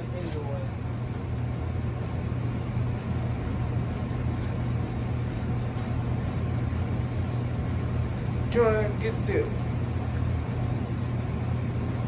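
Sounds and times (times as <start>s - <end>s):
ceiling fans running: 0.0s - 12.0s.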